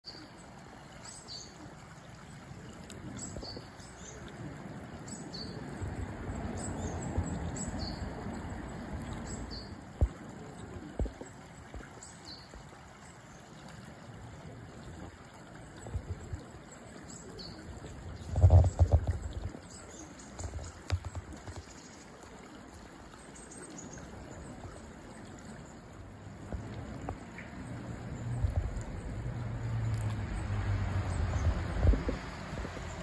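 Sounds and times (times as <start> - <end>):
flowing river water: 0.0 - 33.0.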